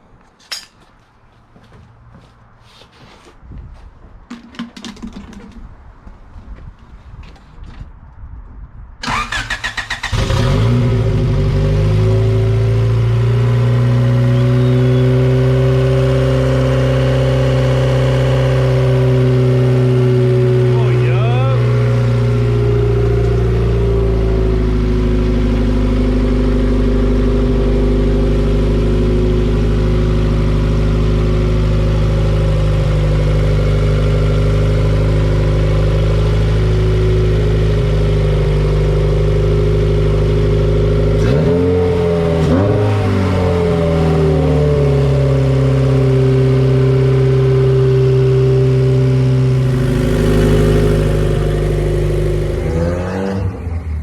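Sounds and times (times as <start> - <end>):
car engine idling and revving: 9.1 - 54.0.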